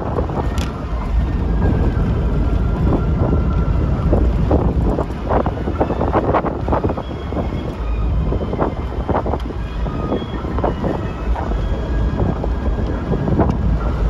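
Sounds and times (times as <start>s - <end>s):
moving vehicle rumble: 0.0s - 14.0s
wind buffeting microphone: 0.0s - 14.0s.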